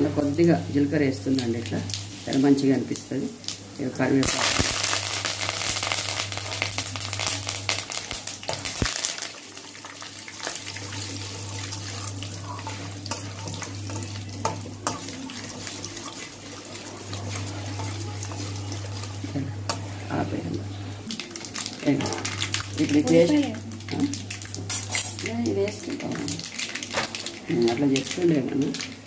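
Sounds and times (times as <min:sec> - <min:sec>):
spices sizzling in hot oil: 0:00.0 - 0:29.0.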